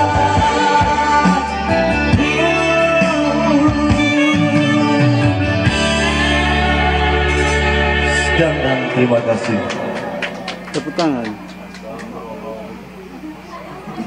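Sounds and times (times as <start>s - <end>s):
electric guitar playing: 0.0s - 13.8s.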